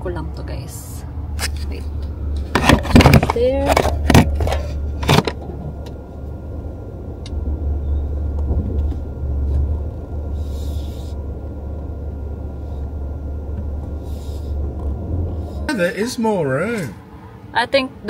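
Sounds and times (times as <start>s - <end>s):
car cabin rumble: 0.0s - 16.9s.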